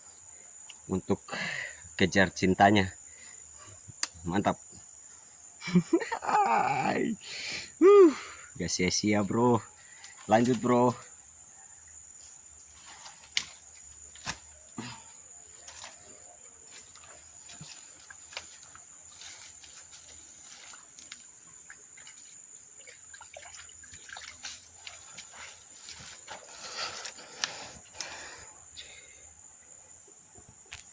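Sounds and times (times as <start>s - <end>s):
insects chorus: 0.0s - 30.9s.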